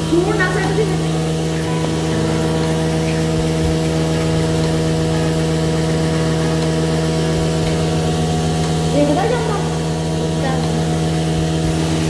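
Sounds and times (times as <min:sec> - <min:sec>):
milk tank motor humming: 0:00.0 - 0:12.0.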